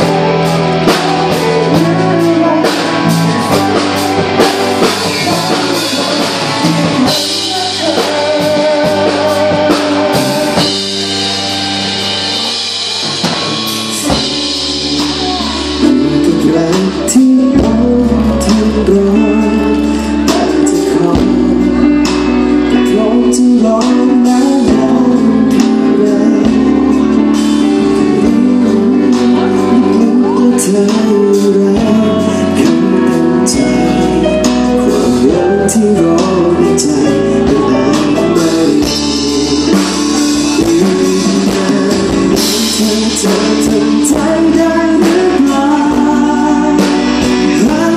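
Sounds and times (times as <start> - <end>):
live rock band: 0.0 - 47.9
man singing: 0.0 - 47.9.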